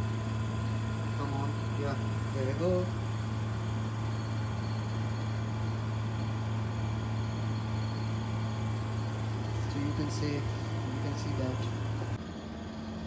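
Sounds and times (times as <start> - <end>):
centrifuge humming and spinning up: 0.0 - 13.0.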